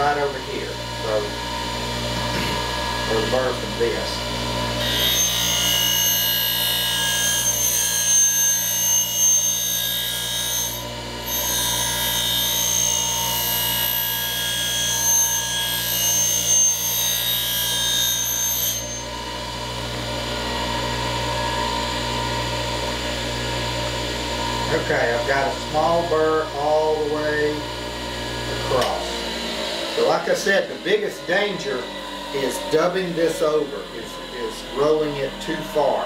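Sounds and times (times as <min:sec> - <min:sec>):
bench grinder motor hum: 0:00.0 - 0:36.0
grinder grinding steel: 0:00.0 - 0:36.0.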